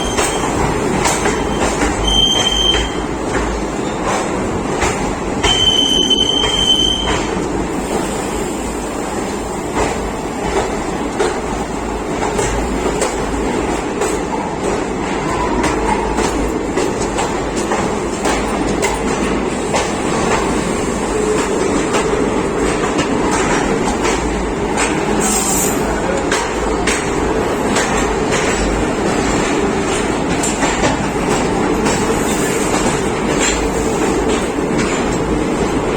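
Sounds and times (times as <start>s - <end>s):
train wheels rumbling on rails: 0.0s - 35.9s.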